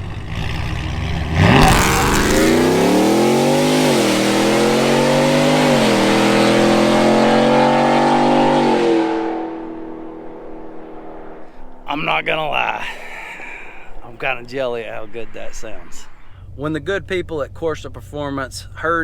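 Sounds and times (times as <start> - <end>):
truck engine revving: 0.0 - 17.7.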